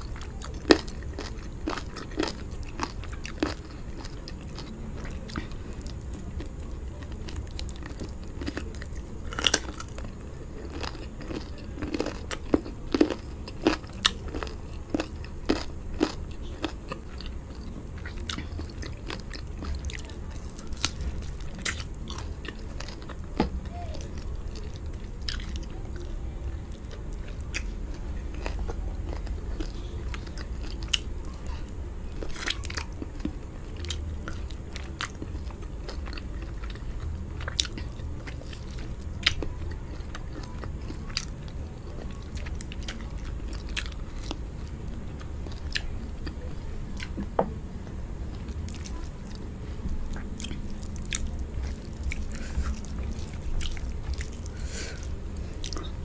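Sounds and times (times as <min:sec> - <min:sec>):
person chewing and lip-smacking: 0:00.0 - 0:56.0.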